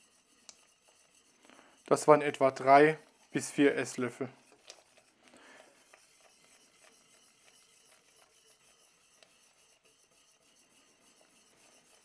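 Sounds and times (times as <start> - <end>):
whisk scraping in a metal pot: 0.0 - 12.0.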